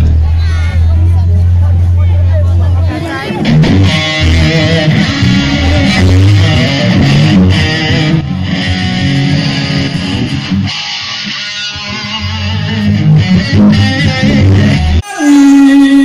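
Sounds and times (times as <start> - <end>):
bass guitar: 0.0 - 16.0
electric guitar playing: 0.0 - 16.0.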